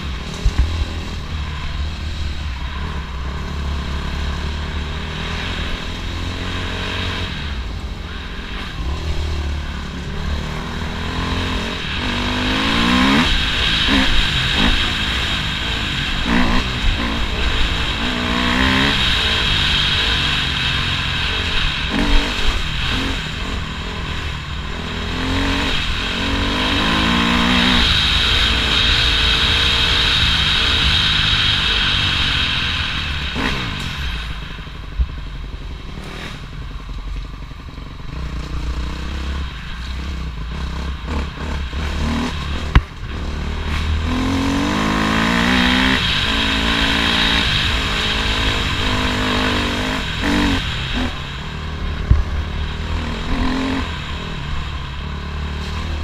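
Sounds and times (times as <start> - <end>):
dirt bike engine revving: 0.0 - 34.4, 35.1 - 36.8, 37.7 - 56.0.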